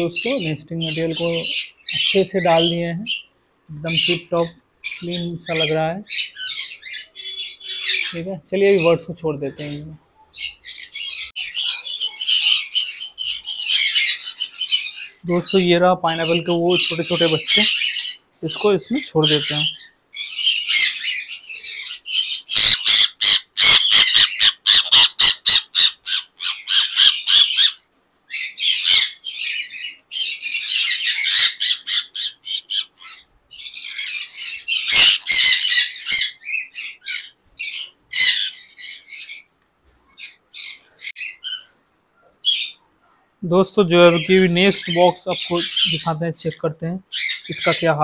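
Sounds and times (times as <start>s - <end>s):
conures squawking: 0.0s - 39.5s, 40.2s - 41.7s, 43.7s - 48.0s.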